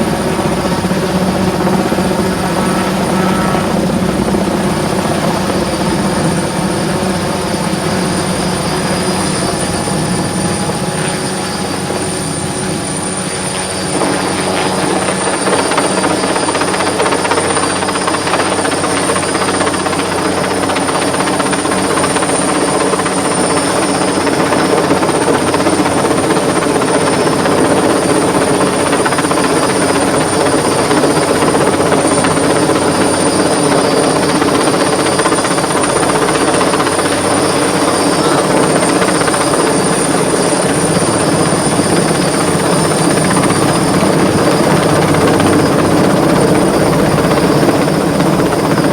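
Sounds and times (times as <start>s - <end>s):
helicopter rotor and engine: 0.0s - 48.9s.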